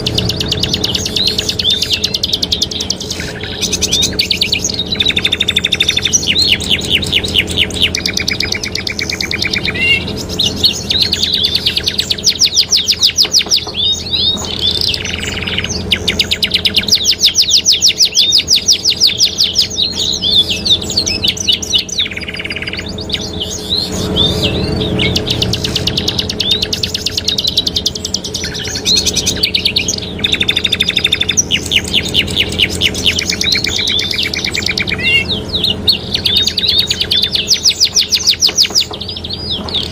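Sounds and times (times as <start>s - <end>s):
canaries singing trills: 0.0s - 39.9s
steady low hum: 0.0s - 39.9s.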